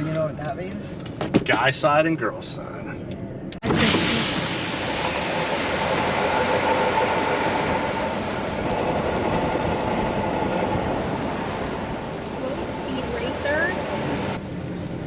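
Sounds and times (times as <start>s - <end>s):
vehicle driving on road: 0.0s - 15.0s.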